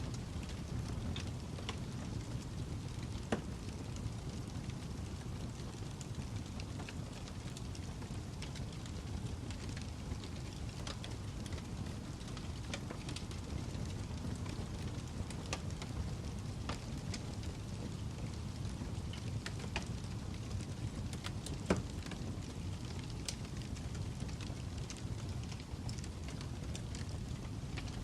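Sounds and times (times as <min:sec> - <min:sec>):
logs crackling and popping: 0:00.0 - 0:28.0
wood fire rumbling: 0:00.0 - 0:28.0.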